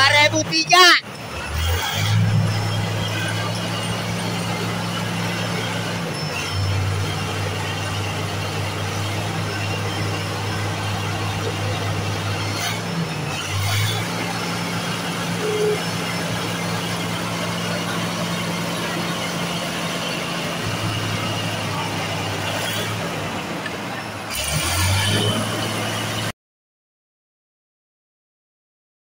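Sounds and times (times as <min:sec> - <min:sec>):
bulldozer diesel engine drone: 0:00.0 - 0:26.3.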